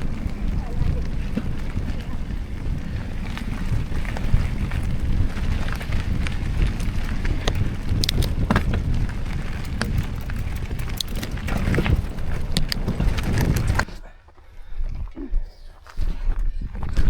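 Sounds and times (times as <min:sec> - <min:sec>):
sharp clicks and rattles: 0:00.0 - 0:13.9
wind buffeting microphone: 0:00.0 - 0:14.0.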